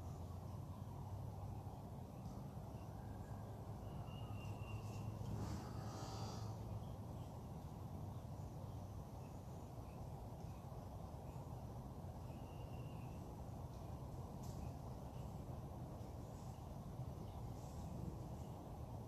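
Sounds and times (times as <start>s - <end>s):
distant bird calls: 0.0s - 19.0s
steady low hum: 0.0s - 19.0s.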